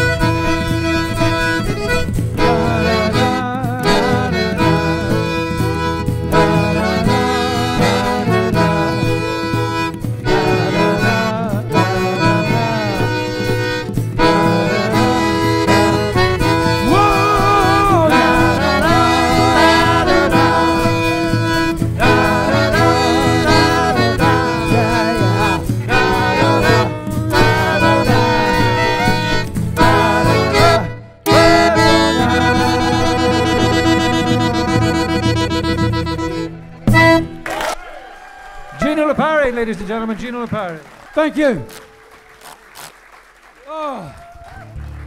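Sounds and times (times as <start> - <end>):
accordion and fiddle melody: 0.0 - 37.6, 38.8 - 43.5
guitar backing: 0.0 - 45.0.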